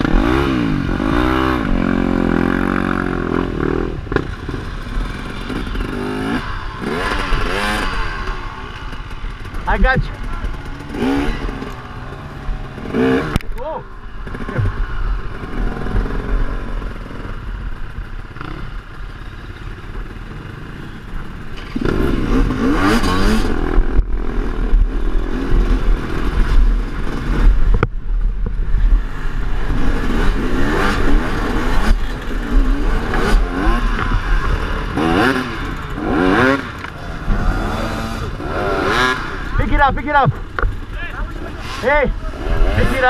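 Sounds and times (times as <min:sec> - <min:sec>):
dirt bike engine revving: 0:00.0 - 0:27.8, 0:28.6 - 0:43.0.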